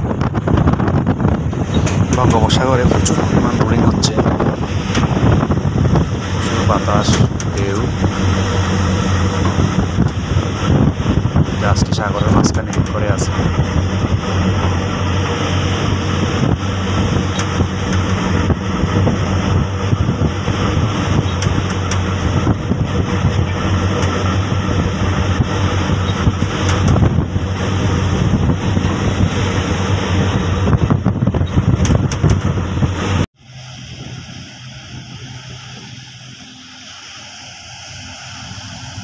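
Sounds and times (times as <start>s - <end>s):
boat engine droning: 0.0s - 39.0s
wind buffeting microphone: 0.0s - 39.0s.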